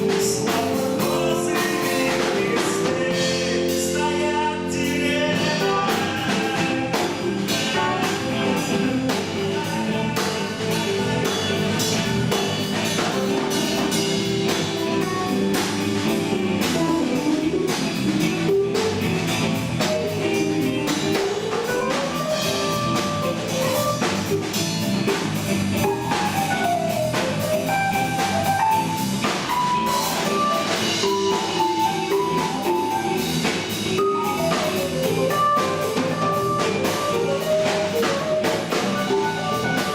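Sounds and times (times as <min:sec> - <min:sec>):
band playing: 0:00.0 - 0:39.9
gliding melodic lead line: 0:05.4 - 0:39.9.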